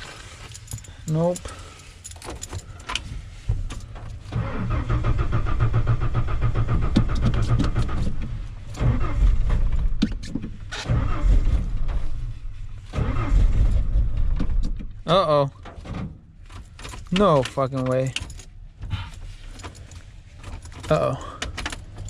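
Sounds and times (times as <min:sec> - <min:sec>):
engine cranking without starting: 0:00.0 - 0:15.0, 0:16.5 - 0:22.0.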